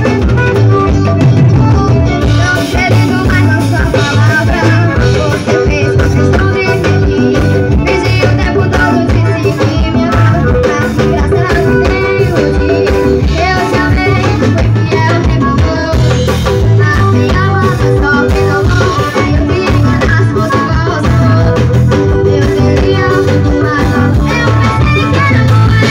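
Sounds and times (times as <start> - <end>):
band playing: 0.0 - 25.9
person singing: 0.0 - 25.9.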